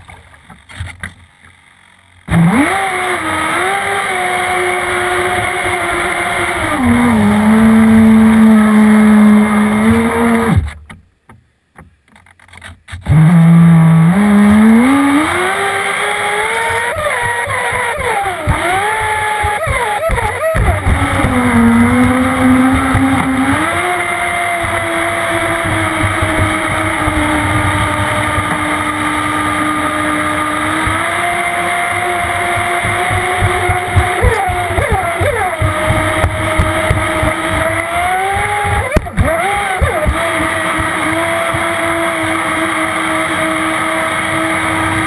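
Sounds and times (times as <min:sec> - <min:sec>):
model boat motor whining: 0:01.7 - 0:10.8, 0:12.9 - 0:45.0.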